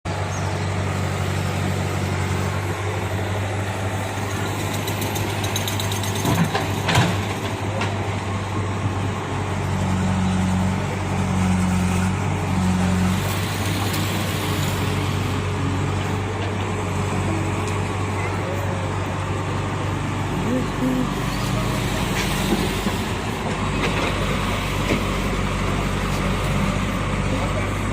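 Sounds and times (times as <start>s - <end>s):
diesel engines running: 0.1s - 27.9s.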